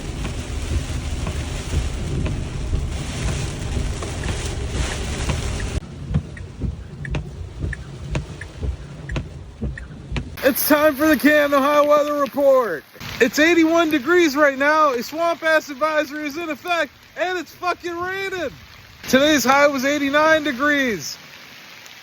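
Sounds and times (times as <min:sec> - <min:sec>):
heavy rain with deep rumble: 0:00.0 - 0:22.0
raindrops tapping close by: 0:00.0 - 0:22.0.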